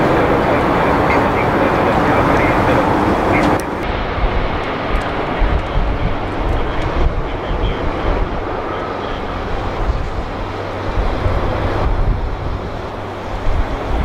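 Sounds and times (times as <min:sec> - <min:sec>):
jet airliner passing low: 0:00.0 - 0:14.0.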